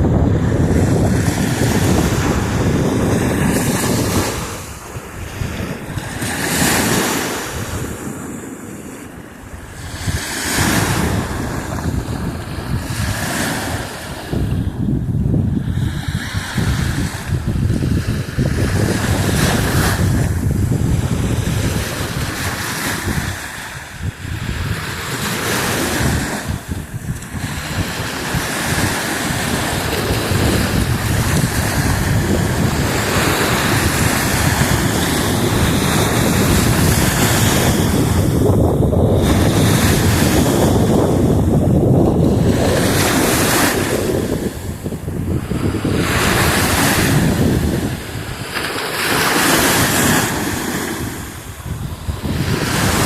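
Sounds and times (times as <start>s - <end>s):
surf breaking on a beach: 0.0s - 53.0s
wind buffeting microphone: 0.0s - 53.0s.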